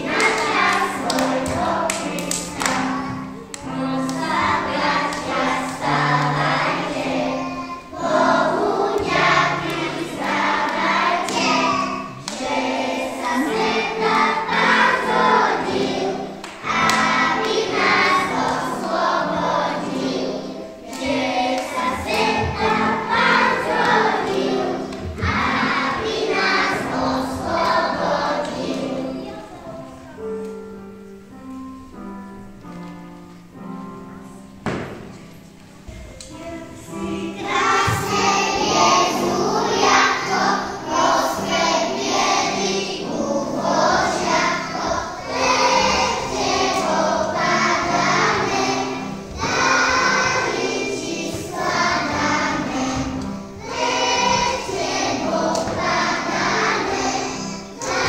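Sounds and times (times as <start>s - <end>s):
children singing together: 0.0s - 30.5s, 35.8s - 58.0s
instrumental accompaniment: 0.0s - 58.0s.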